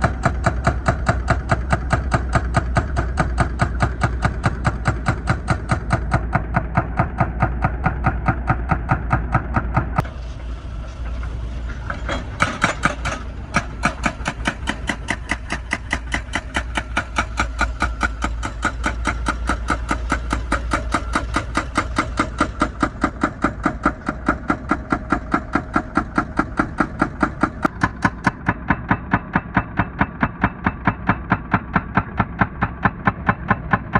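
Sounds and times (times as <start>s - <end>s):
hydraulic breaker hammering asphalt: 0.0s - 10.1s, 11.8s - 33.9s
diesel engine drone: 0.0s - 33.9s.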